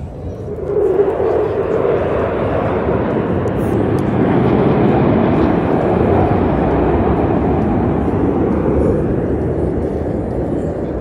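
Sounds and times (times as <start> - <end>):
aircraft engines roaring: 0.0 - 11.0.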